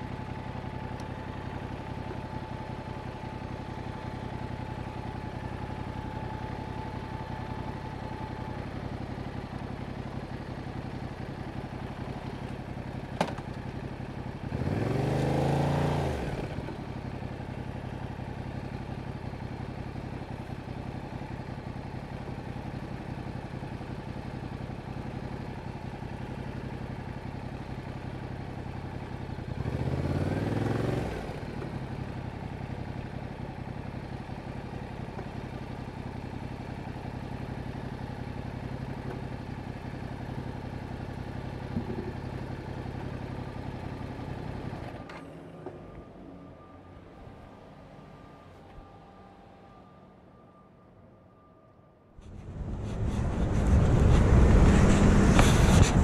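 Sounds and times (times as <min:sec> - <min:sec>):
motorcycle engine idling and revving: 0:00.0 - 0:50.4, 0:52.2 - 0:56.0.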